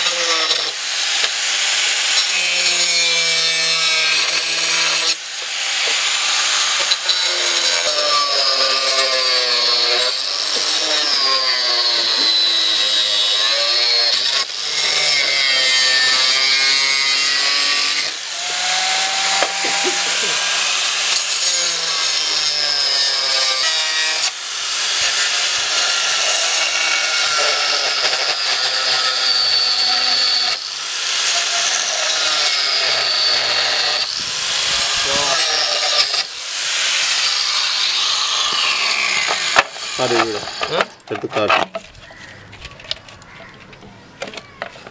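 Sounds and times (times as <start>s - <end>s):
angle grinder cutting plastic: 0.0s - 43.6s.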